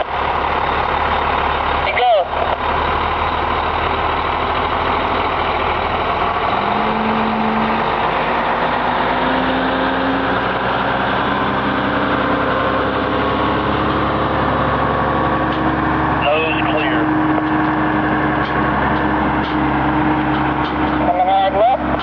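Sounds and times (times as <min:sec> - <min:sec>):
rising engine note: 0:00.0 - 0:22.0
vehicle engine low hum: 0:00.0 - 0:22.0.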